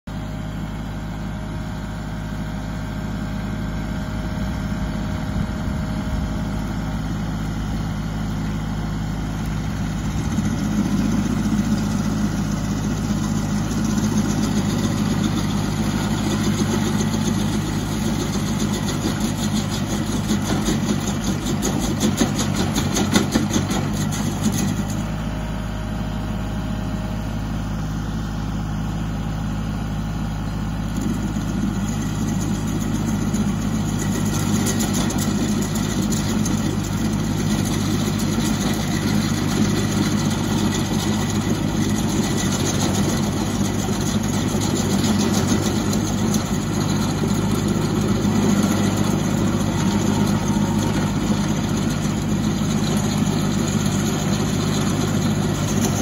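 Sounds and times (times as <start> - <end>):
tractor diesel engine running: 0.0 - 56.0
stump grinder cutter chattering: 3.4 - 25.3, 30.6 - 56.0.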